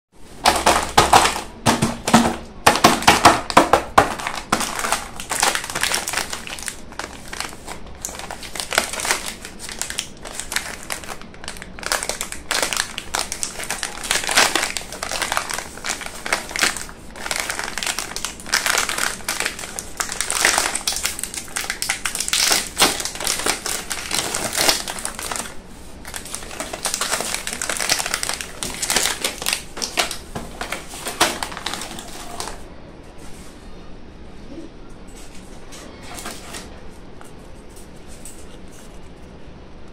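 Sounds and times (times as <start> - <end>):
plastic wrapper crinkling: 0.4 - 32.6.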